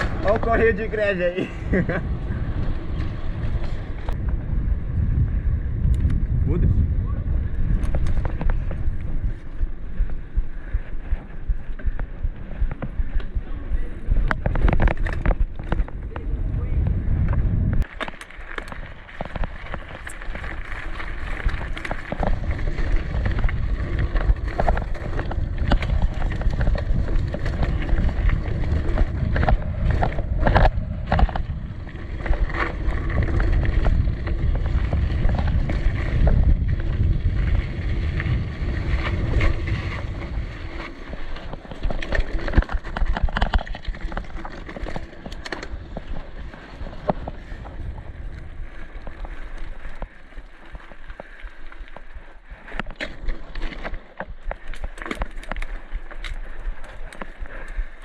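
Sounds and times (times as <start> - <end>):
bike rattling and knocking: 0.0 - 5.1, 7.4 - 58.0
wind buffeting microphone: 0.0 - 17.9, 18.7 - 51.4
tyre rumble: 0.0 - 58.0.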